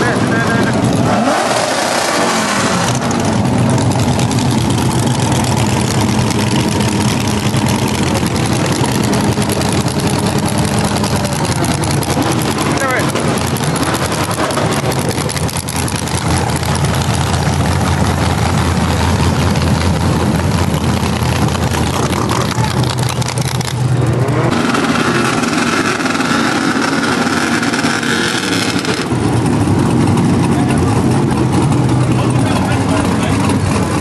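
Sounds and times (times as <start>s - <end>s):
pickup truck engine revving: 0.0s - 34.0s.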